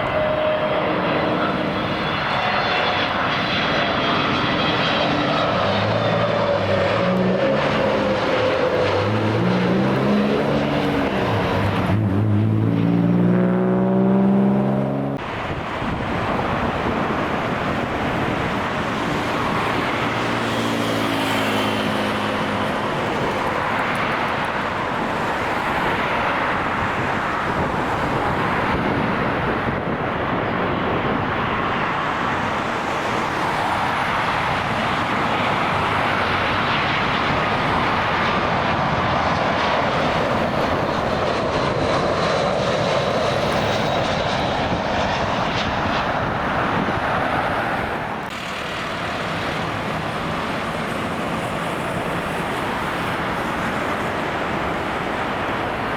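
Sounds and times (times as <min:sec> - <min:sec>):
jet engines roaring: 0:00.0 - 0:55.9.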